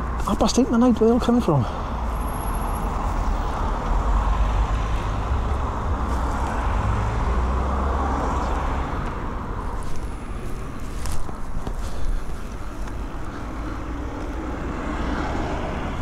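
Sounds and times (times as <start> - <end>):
cars passing on a road: 0.0 - 16.0.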